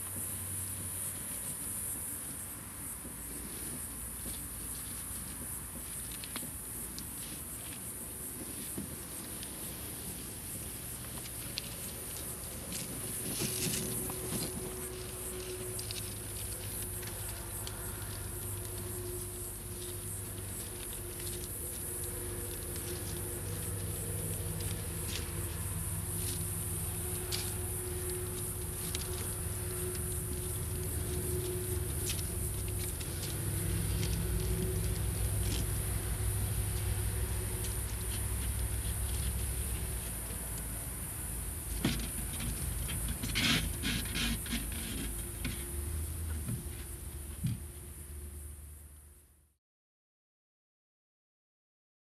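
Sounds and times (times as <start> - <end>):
background hum: 0.0 - 49.6
kittens rustling dry leaves: 3.0 - 45.2.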